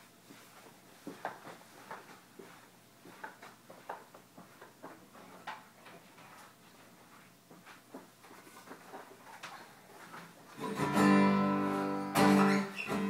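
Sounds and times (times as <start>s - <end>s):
footsteps: 0.0s - 13.0s.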